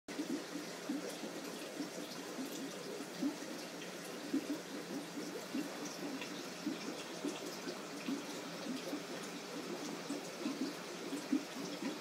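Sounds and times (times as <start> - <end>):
water burbling and gurgling: 0.1 - 12.0.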